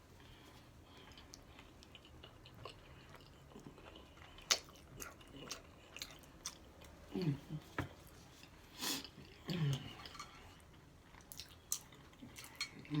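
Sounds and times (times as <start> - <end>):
person chewing and crunching food: 0.1 - 13.0.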